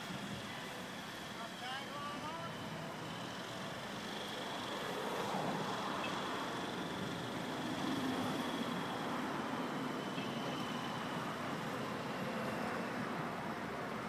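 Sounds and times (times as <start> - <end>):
crane diesel engine running: 0.0 - 14.0.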